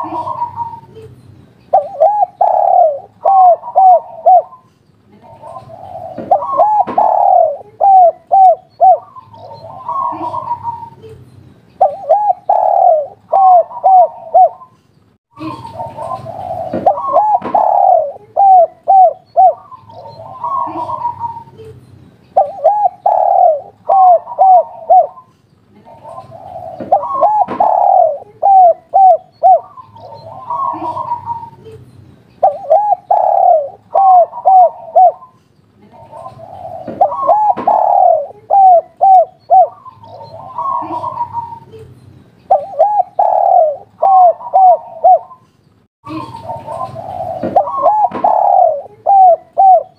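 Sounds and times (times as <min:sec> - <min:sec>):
dove cooing: 0:00.0 - 0:01.1, 0:01.7 - 0:11.2, 0:11.8 - 0:14.8, 0:15.4 - 0:21.7, 0:22.4 - 0:31.8, 0:32.4 - 0:41.8, 0:42.5 - 0:45.4, 0:46.1 - 0:49.9.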